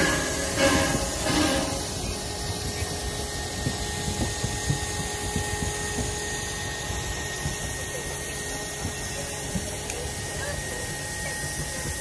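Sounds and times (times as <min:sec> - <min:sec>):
locomotive wheels knocking and clanking: 0:00.0 - 0:12.0
steam hissing: 0:00.0 - 0:12.0.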